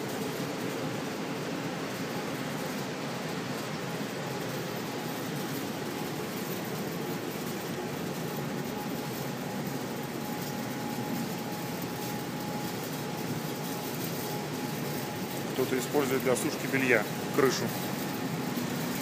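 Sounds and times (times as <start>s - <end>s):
steady rushing noise: 0.1s - 19.0s.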